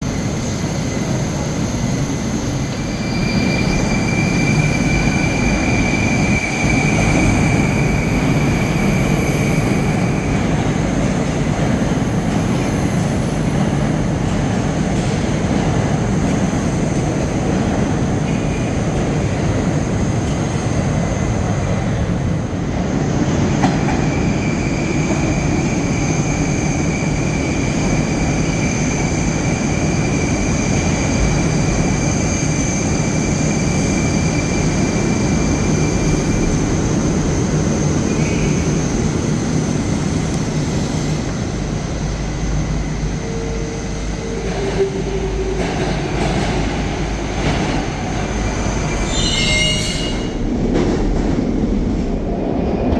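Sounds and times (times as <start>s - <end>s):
train wheels rumbling on track: 0.0s - 52.9s.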